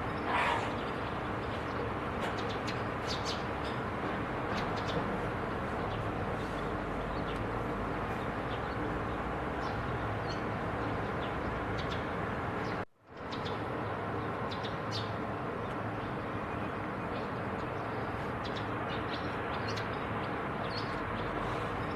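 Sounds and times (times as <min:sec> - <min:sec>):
small birds chirping: 0:00.0 - 0:03.8, 0:05.7 - 0:21.9
steady background noise: 0:00.0 - 0:21.9.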